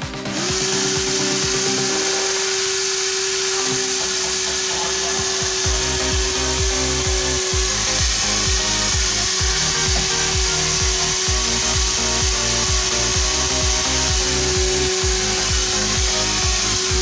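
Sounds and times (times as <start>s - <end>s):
electronic dance music: 0.0s - 17.0s
toy motor propeller whine: 0.0s - 17.0s.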